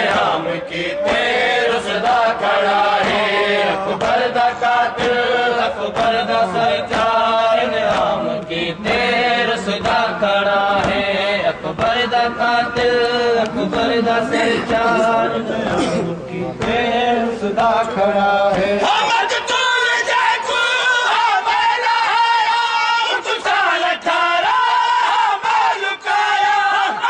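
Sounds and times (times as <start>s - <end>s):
men chanting together: 0.0s - 27.0s.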